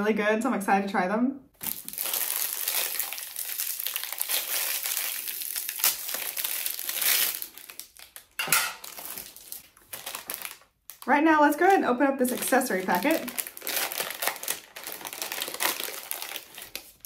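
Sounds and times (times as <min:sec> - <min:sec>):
plastic wrapper crinkling: 0:01.6 - 0:17.0.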